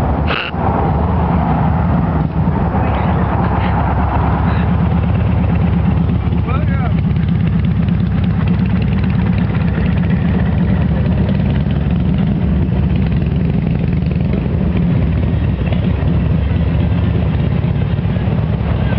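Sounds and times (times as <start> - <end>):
motorcycle engines idling: 0.0 - 18.9.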